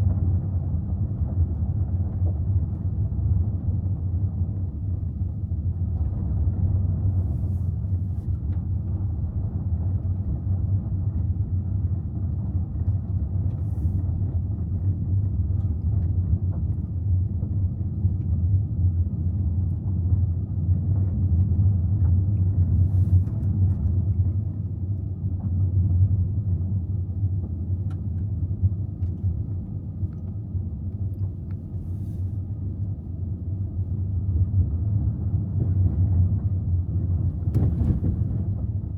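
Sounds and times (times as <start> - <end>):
steady low rumble: 0.0 - 38.9.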